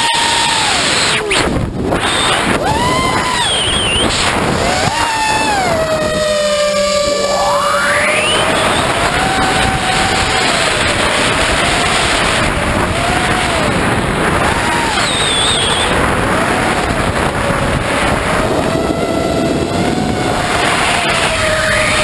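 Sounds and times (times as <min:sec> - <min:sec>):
drone motors whining: 0:00.0 - 0:22.0
wind on microphone: 0:00.0 - 0:22.0.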